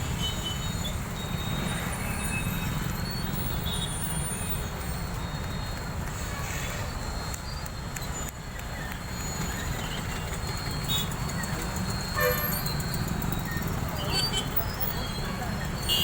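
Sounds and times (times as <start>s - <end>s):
traffic on wet road: 0.0s - 16.0s.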